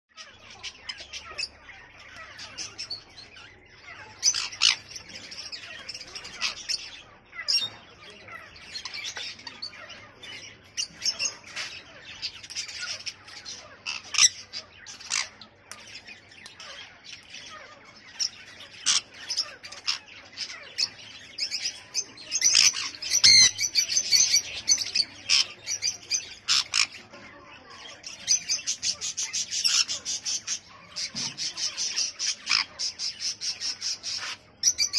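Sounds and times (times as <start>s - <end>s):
parrots chirping and squawking: 0.1s - 34.9s.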